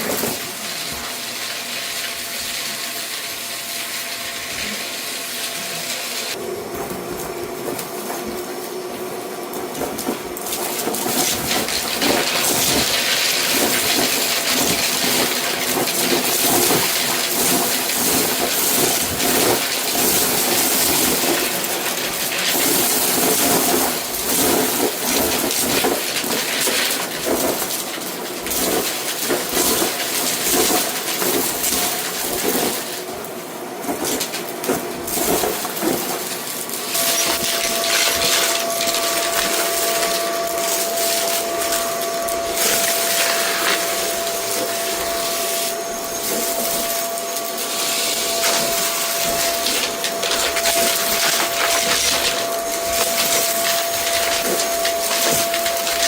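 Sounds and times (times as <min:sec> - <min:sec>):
debris rattling in vacuum: 0:00.0 - 0:05.4, 0:09.4 - 0:56.0
vacuum cleaner motor whine: 0:00.0 - 0:56.0.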